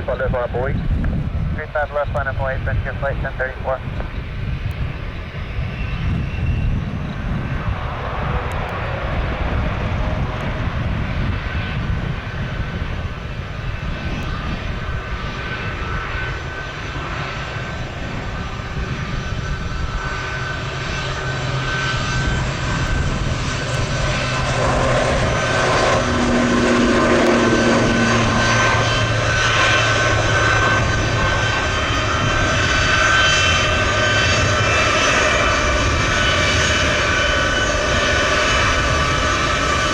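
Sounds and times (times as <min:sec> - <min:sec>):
jet engines whining: 0:00.0 - 0:39.9
wind rumbling on microphone: 0:00.0 - 0:39.9.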